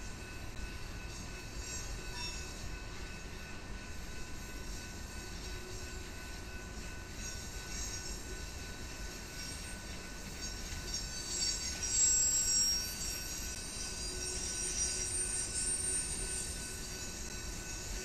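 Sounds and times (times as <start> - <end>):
train rumble: 0.0 - 18.0
train wheels squealing: 0.0 - 18.0.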